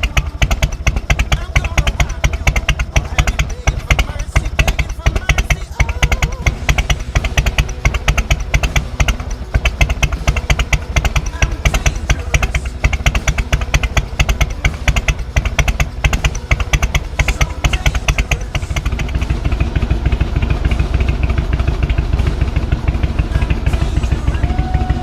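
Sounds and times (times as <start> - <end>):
motorcycle engine loping exhaust: 0.0 - 25.0.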